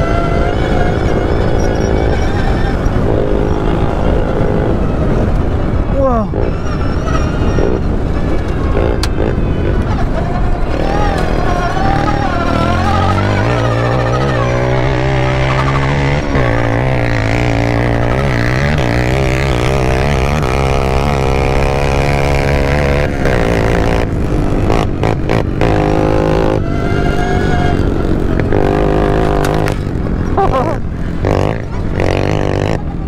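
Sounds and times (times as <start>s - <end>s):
buggy engines revving: 0.0s - 33.0s.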